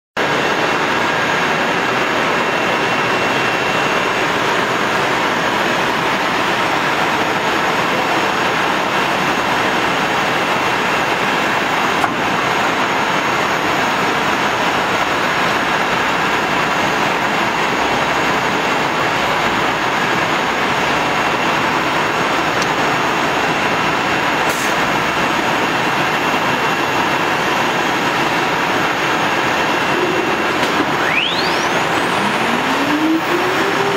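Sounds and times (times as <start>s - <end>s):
cnc router running: 0.2s - 33.9s.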